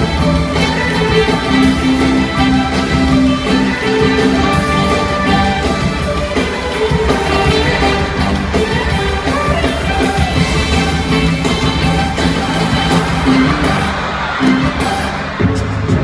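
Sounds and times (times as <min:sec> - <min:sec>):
loud music with held notes: 0:00.0 - 0:16.0.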